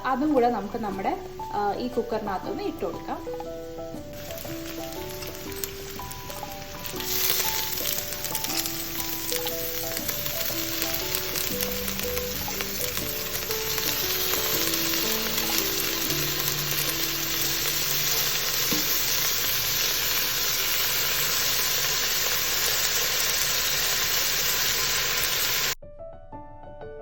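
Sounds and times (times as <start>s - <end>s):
rice sizzling in hot oil: 0.0s - 25.8s.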